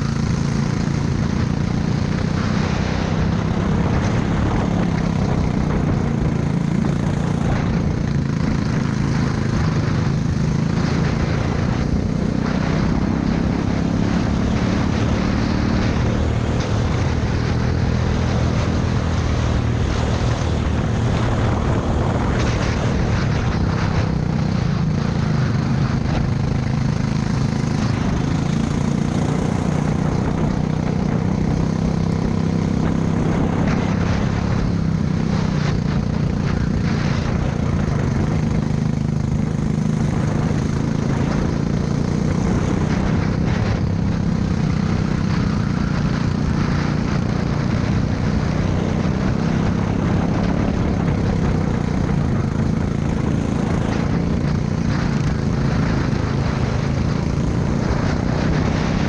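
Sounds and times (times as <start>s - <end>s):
kart engine running hard: 0.0s - 59.0s
wind noise on microphone: 0.0s - 59.0s.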